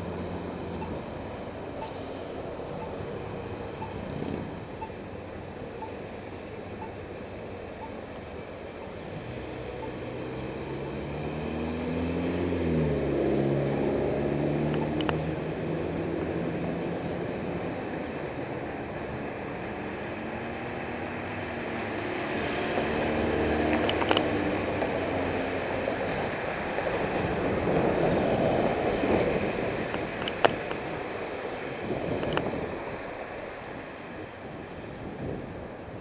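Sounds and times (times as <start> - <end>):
road noise: 0.0 - 36.0
sharp clicks: 0.0 - 36.0
vehicles passing: 0.0 - 36.0.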